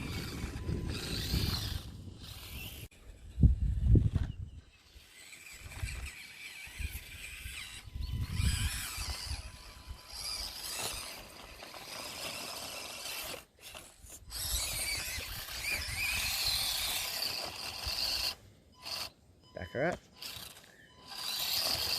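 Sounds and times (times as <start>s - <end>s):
small electric motors whining: 0.0s - 19.2s, 19.9s - 21.9s.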